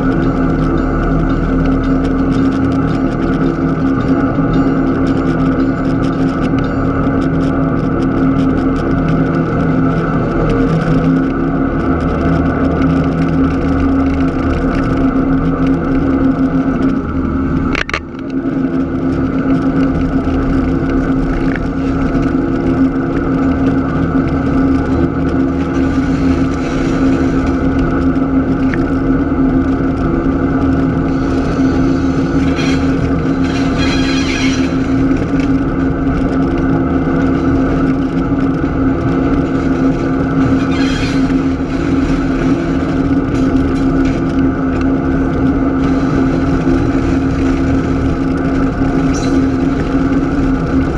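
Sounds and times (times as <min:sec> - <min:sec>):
locomotive diesel engine running: 0:00.0 - 0:50.9.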